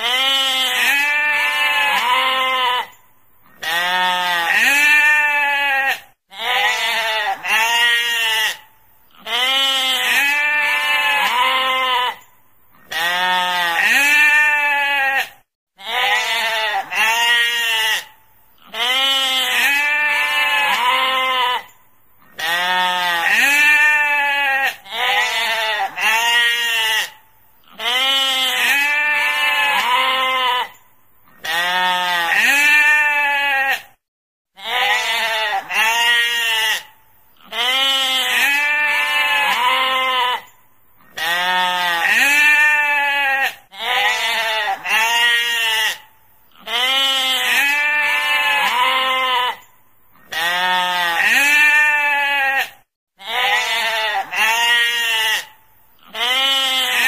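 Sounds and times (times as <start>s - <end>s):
sheep bleating: 0.0s - 34.0s, 34.6s - 57.0s.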